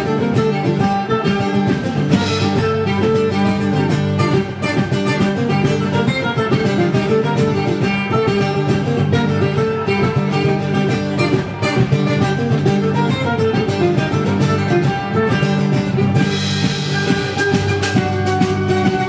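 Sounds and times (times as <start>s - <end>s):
acoustic guitar: 0.0s - 19.0s
bass guitar: 0.0s - 19.0s
drums: 0.0s - 19.0s
mandolin: 0.0s - 19.0s.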